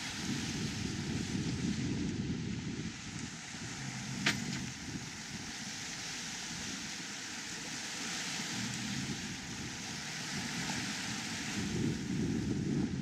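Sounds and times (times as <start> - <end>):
sea water churning: 0.0 - 13.0
wind rumble on microphone: 0.0 - 13.0.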